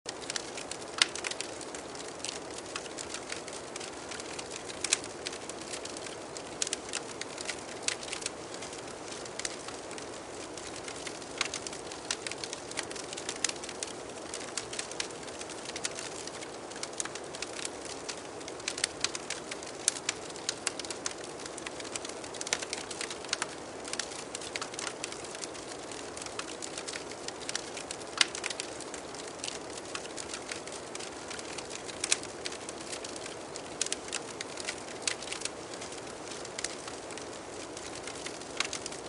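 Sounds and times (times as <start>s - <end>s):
fire pops and snaps: 0.1s - 39.0s
wood fire crackling: 0.1s - 39.0s.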